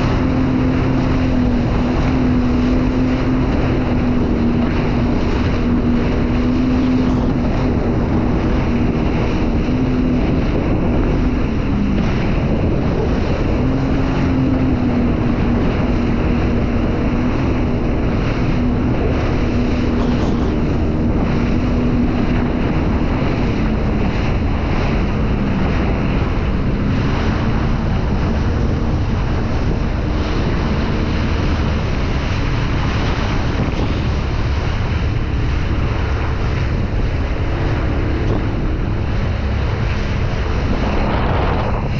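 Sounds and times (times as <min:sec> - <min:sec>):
jet ski engine running: 0:00.0 - 0:41.9
water splashing: 0:00.0 - 0:41.9
wind buffeting microphone: 0:00.0 - 0:41.9.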